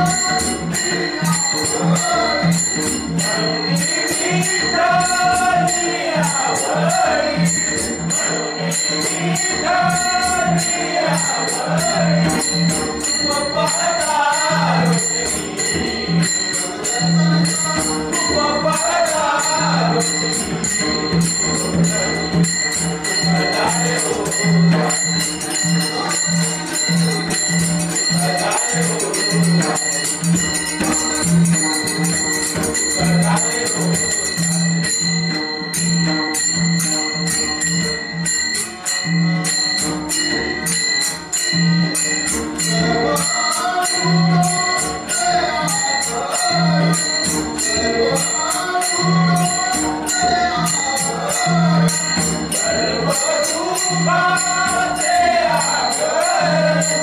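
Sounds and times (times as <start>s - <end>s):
hand cymbals clinking: 0.0s - 57.0s
voices singing: 0.0s - 57.0s.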